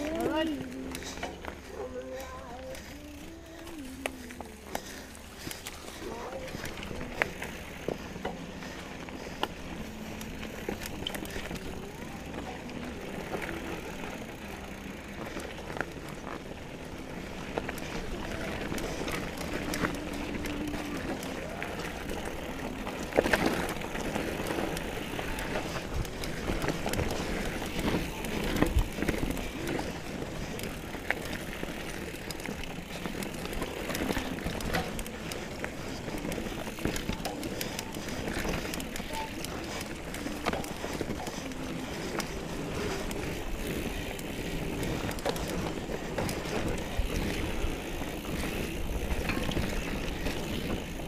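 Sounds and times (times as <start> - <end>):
bike rattles and clicks: 0.0 - 51.0
bike tyres rolling on dirt: 0.0 - 51.0.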